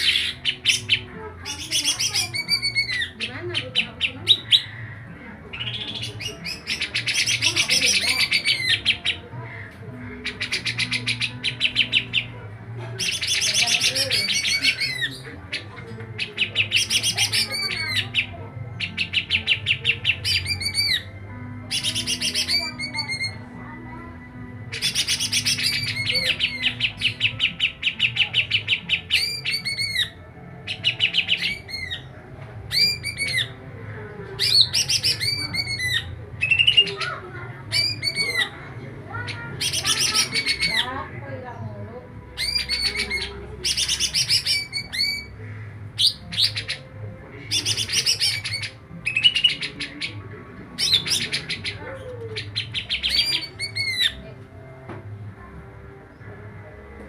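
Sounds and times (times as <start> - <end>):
songbird singing rapid notes: 0.0 - 12.3, 13.0 - 23.4, 24.7 - 33.6, 34.4 - 37.1, 42.4 - 54.2.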